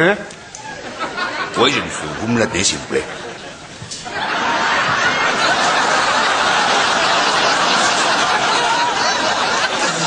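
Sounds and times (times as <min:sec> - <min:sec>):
audience laughing: 0:00.7 - 0:10.0.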